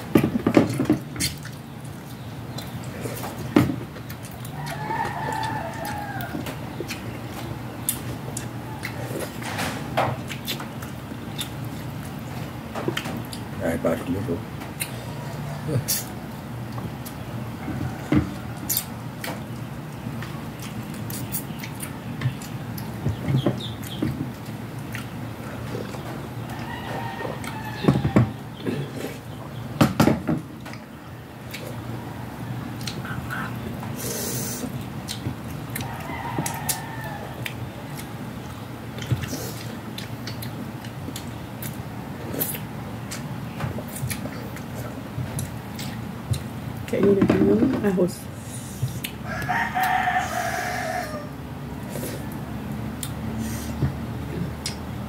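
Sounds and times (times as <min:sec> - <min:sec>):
chewing and smacking: 0:00.0 - 0:29.6, 0:30.5 - 0:47.0, 0:48.6 - 0:50.2, 0:51.7 - 0:55.0.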